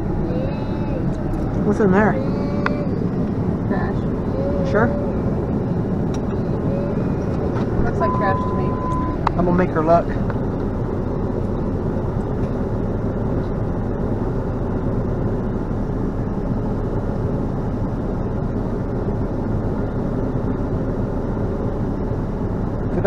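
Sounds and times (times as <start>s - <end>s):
road noise: 0.0s - 23.0s
vehicle engine: 0.0s - 23.0s.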